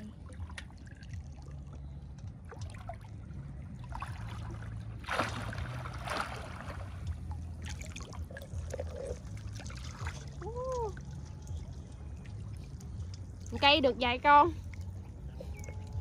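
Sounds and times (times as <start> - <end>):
low steady rumble: 0.0 - 16.0
water splashing and sloshing: 0.0 - 16.0.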